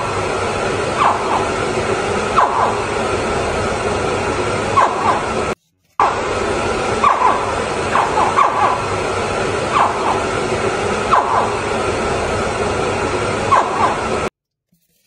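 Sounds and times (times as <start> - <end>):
water gushing from hose: 0.0 - 14.2.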